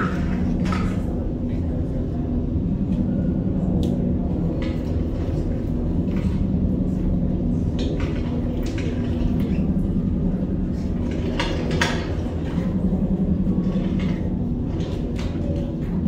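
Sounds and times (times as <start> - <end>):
low mechanical hum and rumble: 0.0 - 16.0.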